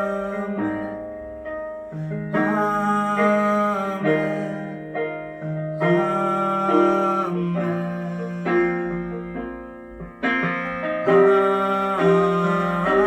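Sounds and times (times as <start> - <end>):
keyboard sustained chords: 0.0 - 13.0.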